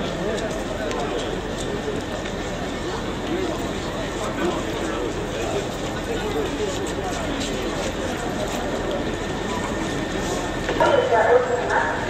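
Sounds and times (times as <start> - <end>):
crowd murmuring and talking: 0.0 - 12.0
steady noisy rumble: 0.0 - 12.0.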